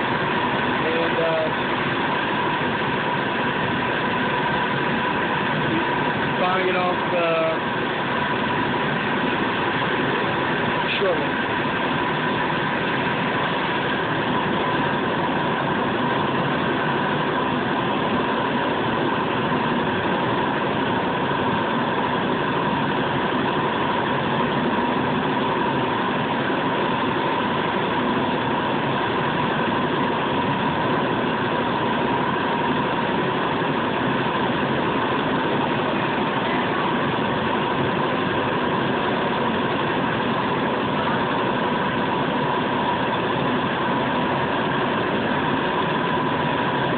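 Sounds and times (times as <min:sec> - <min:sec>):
furnace burner rushing: 0:00.0 - 0:46.9.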